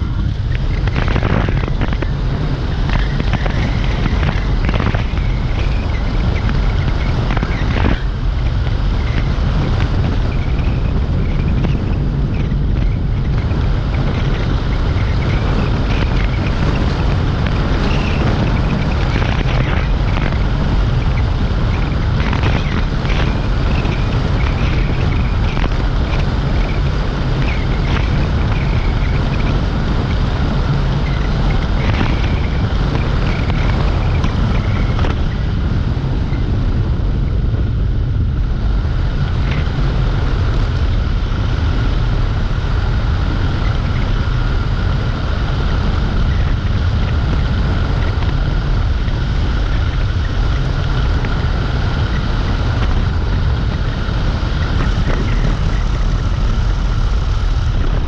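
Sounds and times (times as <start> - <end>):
road noise: 0.0 - 58.0
wind rumble on microphone: 0.0 - 58.0.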